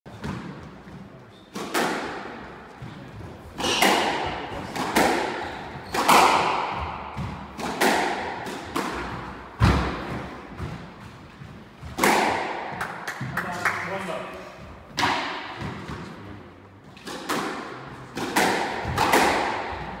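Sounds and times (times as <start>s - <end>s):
squash ball hits echoing: 0.1s - 16.2s, 17.0s - 20.0s.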